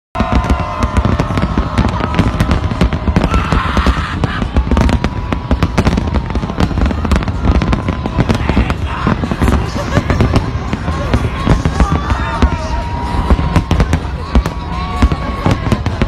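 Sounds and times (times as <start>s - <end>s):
fireworks bursting and crackling: 0.2s - 16.0s.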